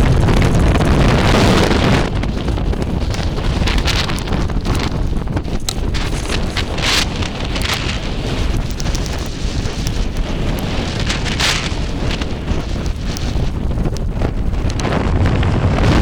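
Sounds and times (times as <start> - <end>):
wind buffeting microphone: 0.0 - 16.0
hissing blown sand: 0.1 - 16.0.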